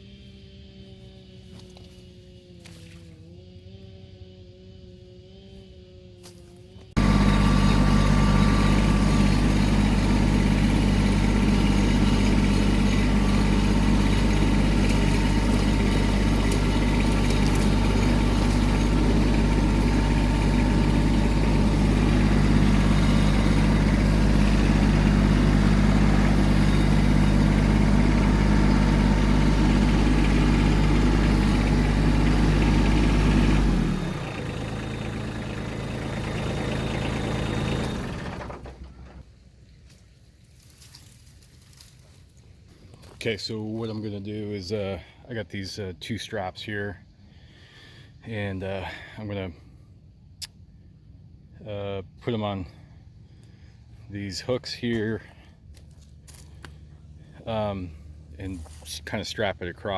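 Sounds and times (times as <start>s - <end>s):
tractor diesel engine idling: 7.0s - 39.6s, 40.6s - 59.9s.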